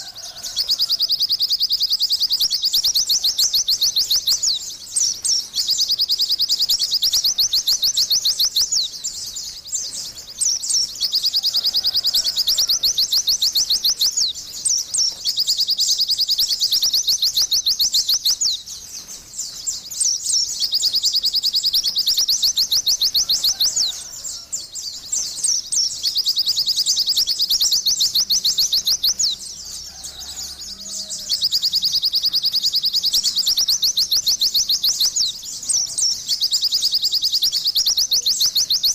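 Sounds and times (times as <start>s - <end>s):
bird high-pitched twittering trills: 0.0s - 38.9s.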